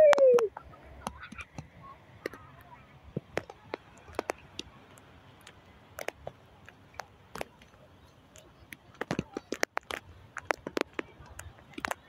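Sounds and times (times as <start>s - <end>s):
raindrops striking microphone: 0.0s - 12.0s.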